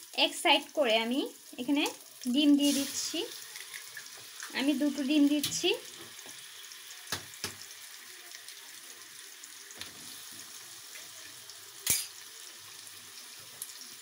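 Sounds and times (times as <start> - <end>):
eggs sizzling in a pan: 0.0 - 14.0.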